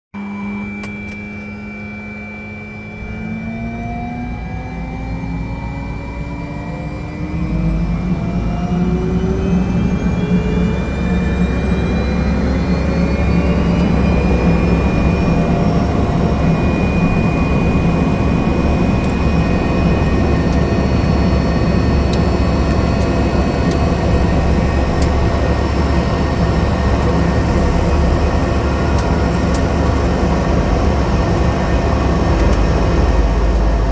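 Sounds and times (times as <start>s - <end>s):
aircraft engine whine: 0.2s - 33.9s.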